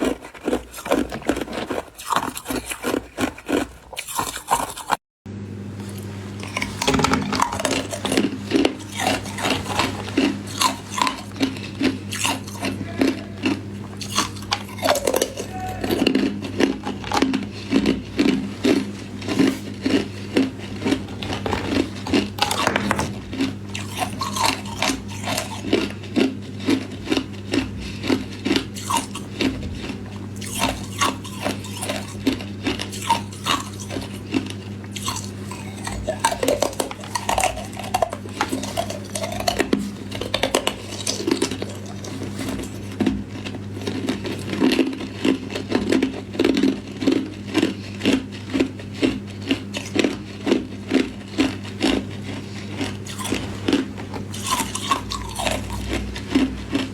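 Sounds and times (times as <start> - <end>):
ice cubes crunching when chewed: 0.0 - 5.0, 5.9 - 56.9
constant low hum: 0.0 - 56.9.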